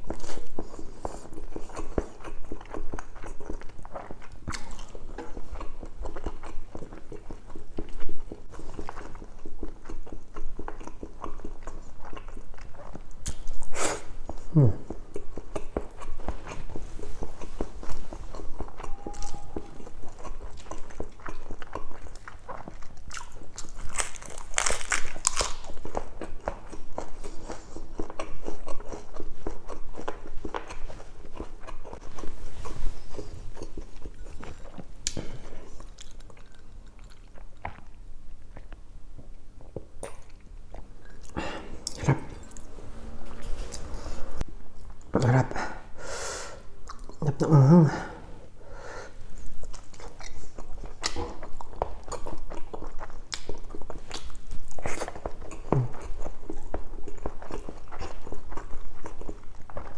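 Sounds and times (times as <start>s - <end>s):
wet chewing and lip-smacking: 0.0s - 42.5s, 49.2s - 59.9s.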